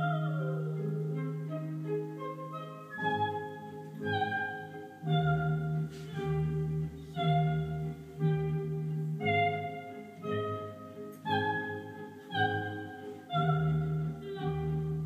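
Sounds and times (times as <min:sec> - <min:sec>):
classical instrumental music: 0:00.0 - 0:15.0.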